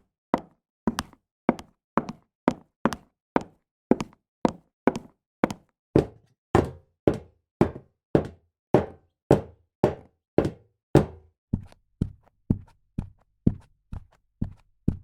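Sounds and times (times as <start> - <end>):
high heels on hard floor: 0.4 - 15.0.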